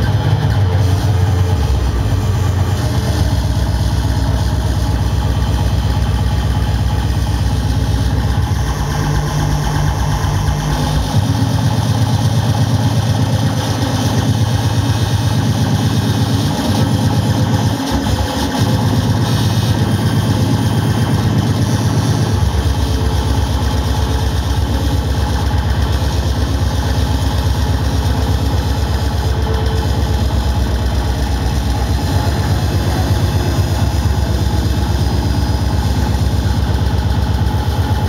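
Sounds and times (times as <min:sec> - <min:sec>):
distorted electronic noise music: 0:00.0 - 0:38.0
pulsing bass rumble: 0:00.0 - 0:38.0.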